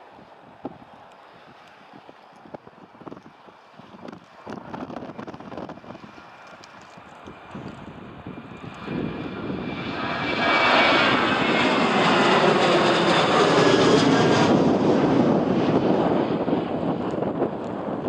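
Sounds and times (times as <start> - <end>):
jet engines at takeoff power: 0.0 - 18.0.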